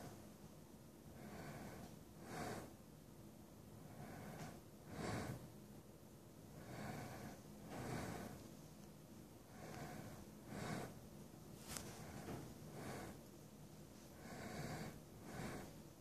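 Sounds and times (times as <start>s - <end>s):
soft rhythmic breathing: 0.0s - 16.0s.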